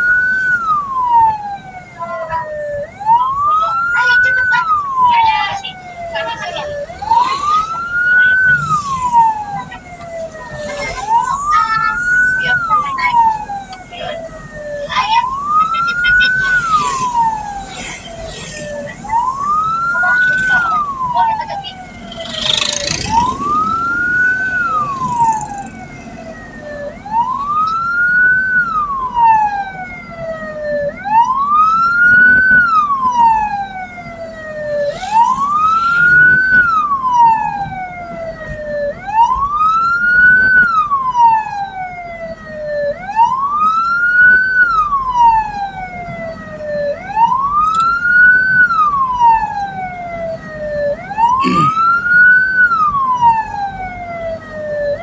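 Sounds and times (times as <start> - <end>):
siren wailing: 0.0 - 55.0
vehicle rumble: 0.0 - 55.0.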